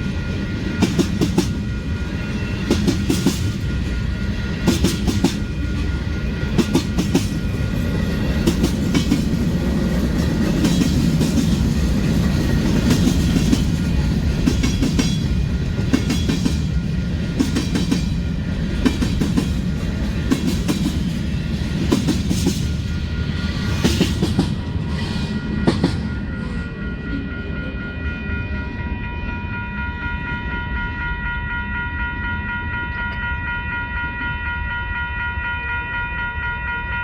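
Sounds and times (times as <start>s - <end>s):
freight train rumble: 0.0s - 36.8s.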